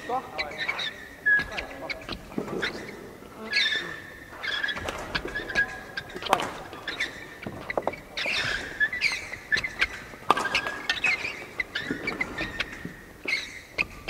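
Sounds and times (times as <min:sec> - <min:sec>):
shoes squeaking on court: 0:00.0 - 0:14.0.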